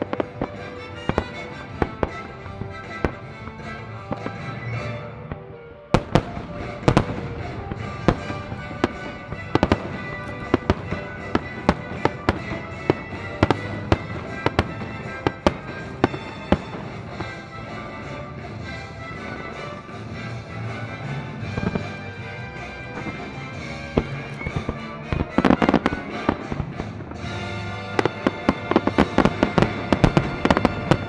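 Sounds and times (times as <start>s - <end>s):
background music: 0.0s - 31.0s
fireworks bursting: 0.0s - 31.0s.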